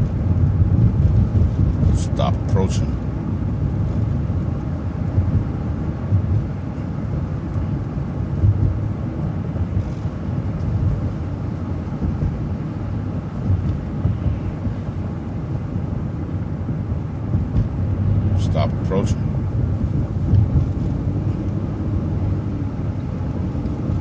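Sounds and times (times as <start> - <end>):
bus engine rumble: 0.0 - 24.0
road noise: 0.0 - 24.0.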